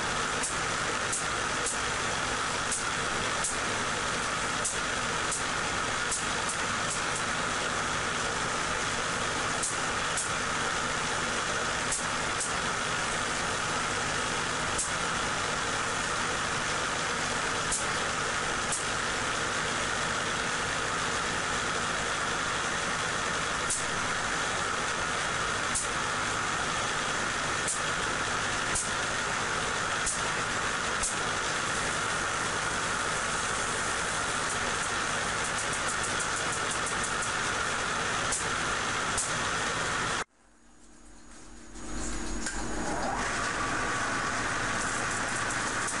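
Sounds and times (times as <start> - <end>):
generator motor running: 0.0 - 46.0.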